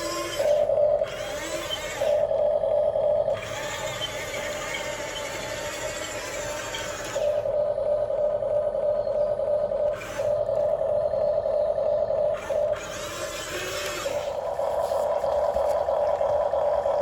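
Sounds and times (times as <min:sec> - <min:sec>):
toy excavator motor whine: 0:00.0 - 0:17.0.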